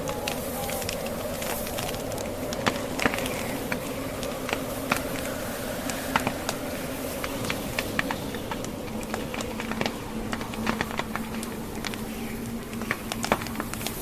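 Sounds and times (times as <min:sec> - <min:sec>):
blizzard wind rushing: 0:00.0 - 0:14.0
wood fire crackling and popping: 0:00.0 - 0:14.0.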